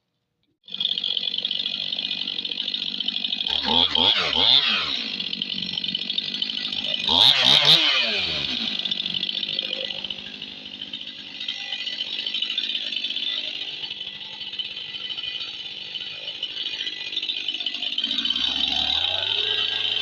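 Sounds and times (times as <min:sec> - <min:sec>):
chainsaw running: 0:00.7 - 0:20.0.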